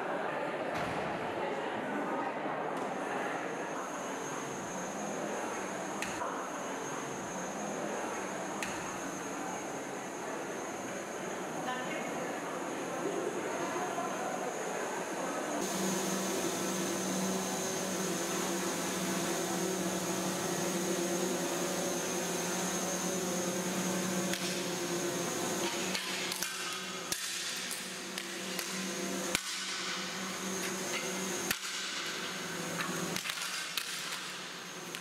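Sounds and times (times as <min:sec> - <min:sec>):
hum with high whine: 0:02.9 - 0:35.0.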